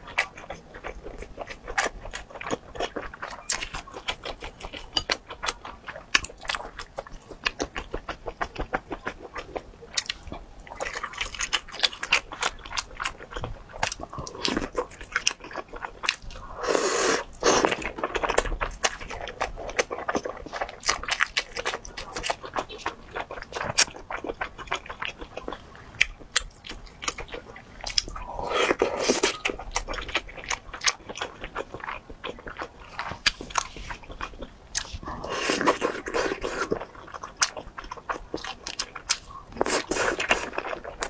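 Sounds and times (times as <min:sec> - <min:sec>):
crunching and mouth clicks: 0:00.0 - 0:41.0.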